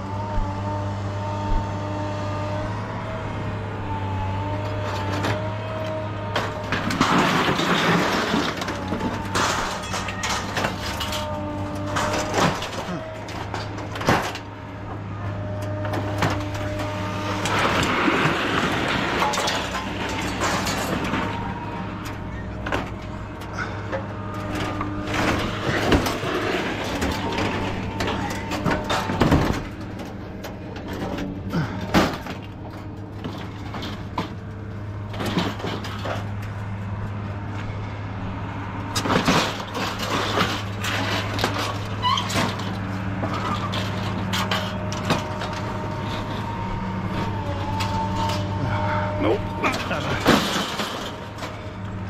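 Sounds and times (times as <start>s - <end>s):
engine idling hum: 0.0s - 52.0s
scrap metal clanking onto pile: 6.3s - 14.5s, 15.6s - 34.4s, 35.0s - 36.6s, 38.9s - 52.0s.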